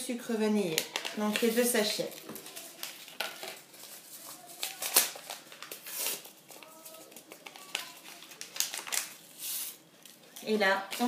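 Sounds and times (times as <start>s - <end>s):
paper sachets crinkling: 0.7s - 11.0s.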